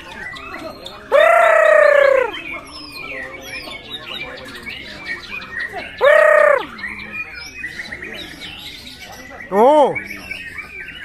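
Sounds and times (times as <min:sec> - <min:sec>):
bird singing chirps and whistles: 0:00.0 - 0:11.0.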